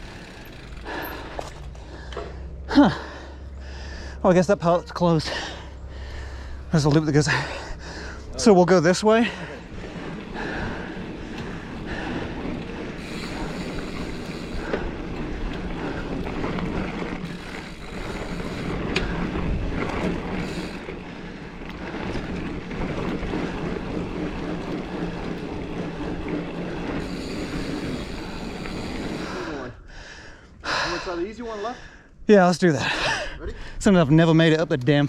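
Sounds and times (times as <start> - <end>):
bike tyres rumbling on dirt: 0.0 - 29.7
bike rattling: 0.0 - 31.5, 34.0 - 35.0.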